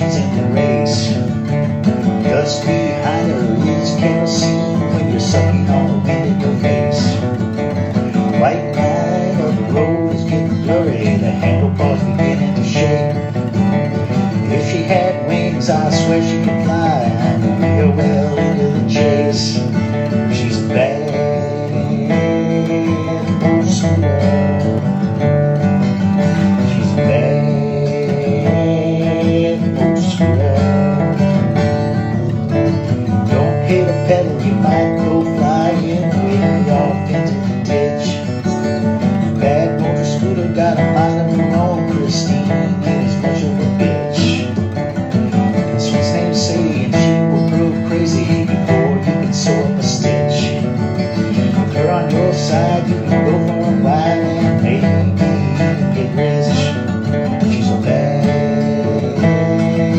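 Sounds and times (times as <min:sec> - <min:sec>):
bass guitar: 0:00.0 - 0:59.9
sliding lead guitar: 0:00.0 - 0:59.9
strummed guitar accompaniment: 0:00.0 - 0:59.9.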